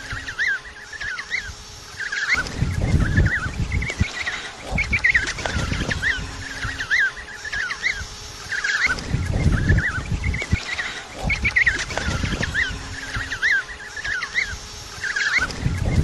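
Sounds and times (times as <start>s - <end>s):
penguins calling: 0.0s - 16.0s
low rumbling noise: 2.2s - 16.0s.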